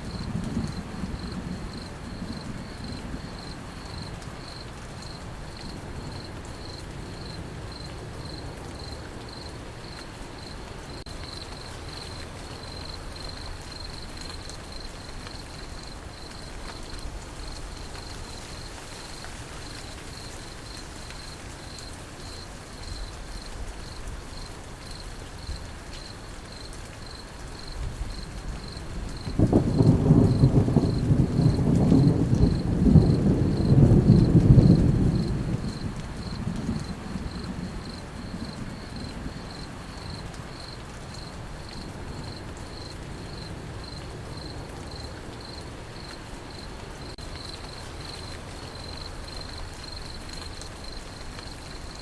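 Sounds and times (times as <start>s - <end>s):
crickets chirping: 0.0s - 52.0s
rain falling: 0.0s - 52.0s.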